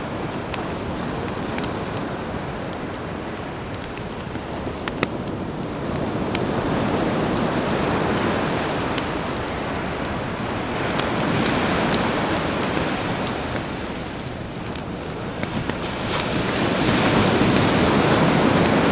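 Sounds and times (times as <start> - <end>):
campfire crackling and popping: 0.0 - 18.9
sea waves washing in: 0.0 - 18.9.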